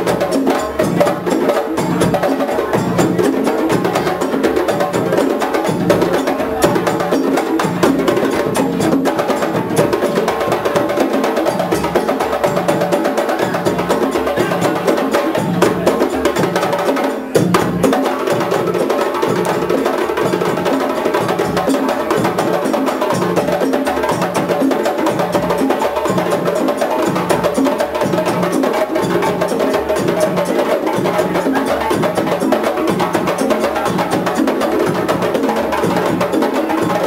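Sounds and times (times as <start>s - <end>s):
djembes played by hand: 0.0s - 37.0s.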